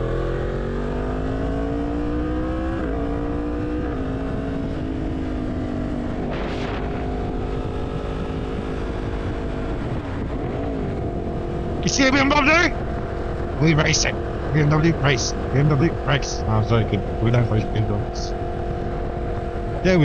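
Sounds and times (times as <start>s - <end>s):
low wind rumble: 0.0s - 20.0s
motorcycle engine accelerating: 0.0s - 20.0s.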